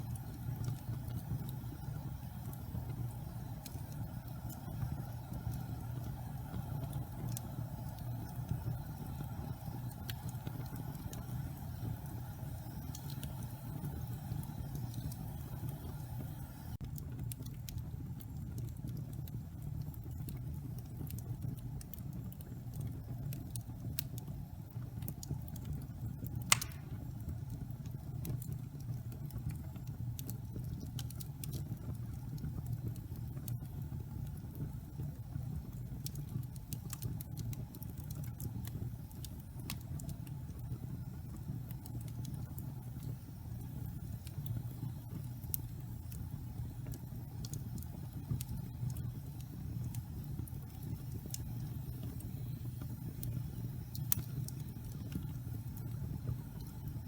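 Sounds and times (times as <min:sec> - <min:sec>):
fire crackling and popping: 0:00.0 - 0:57.0
wood fire rumbling: 0:00.0 - 0:57.0.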